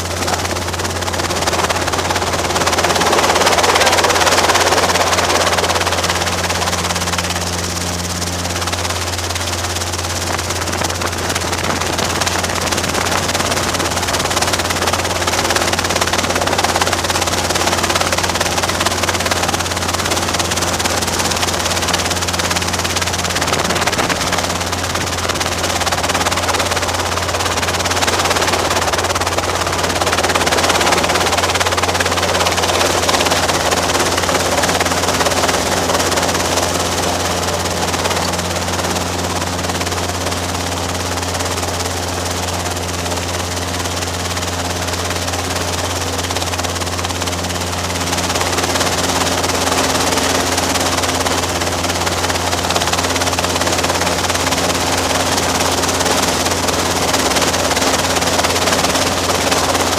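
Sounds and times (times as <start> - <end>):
helicopter engine and rotors droning: 0.0 - 59.9.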